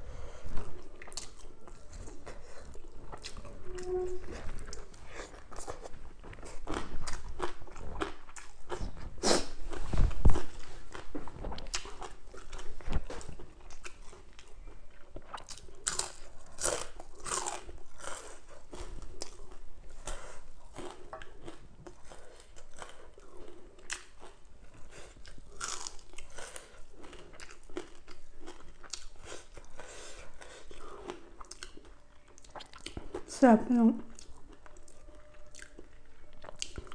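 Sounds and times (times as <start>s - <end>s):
person chewing crunchy food: 0.2s - 33.3s, 34.0s - 36.9s.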